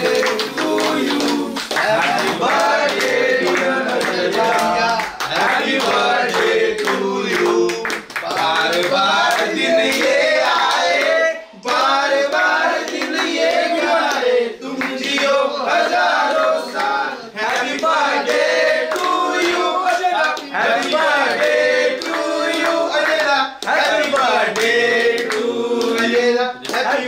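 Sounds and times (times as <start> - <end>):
hand clapping: 0.0 - 27.0
voices singing together: 0.0 - 27.0.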